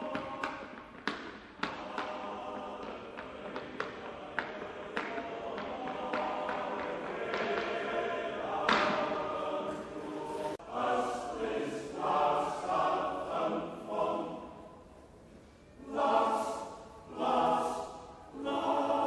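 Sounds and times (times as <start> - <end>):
male choir singing unaccompanied: 1.6 - 14.8, 15.8 - 19.0.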